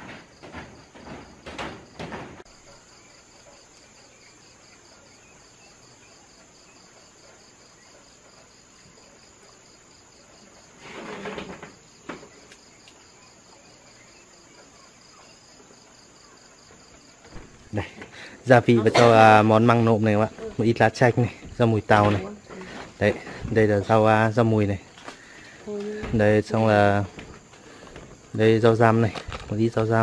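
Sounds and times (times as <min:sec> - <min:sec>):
crickets chirring: 0:00.0 - 0:30.0
rustle: 0:00.0 - 0:30.0.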